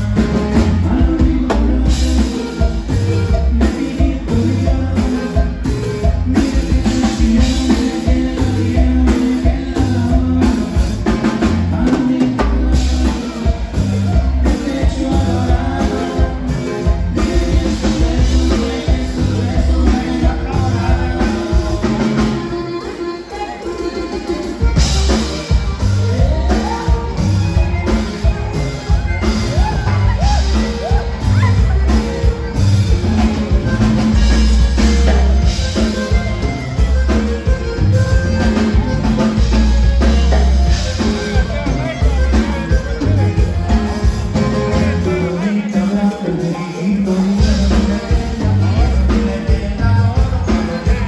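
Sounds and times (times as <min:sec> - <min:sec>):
accordion tones: 0:00.0 - 0:51.0
bass: 0:00.0 - 0:51.0
drums: 0:00.0 - 0:51.0
live band playing dance music: 0:00.0 - 0:51.0
person singing: 0:00.0 - 0:51.0.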